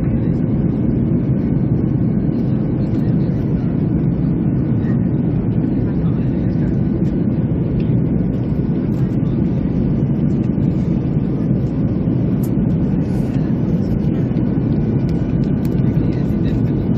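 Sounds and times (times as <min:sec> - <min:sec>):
airliner cabin drone: 0:00.0 - 0:16.9.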